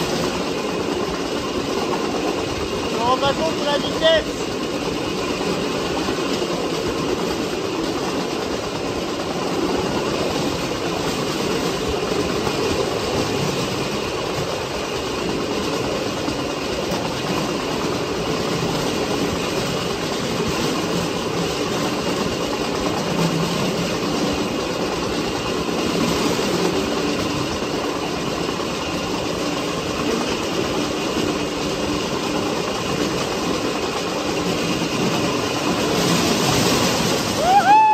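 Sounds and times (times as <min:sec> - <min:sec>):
steel wheels rolling on rails: 0:00.0 - 0:37.9.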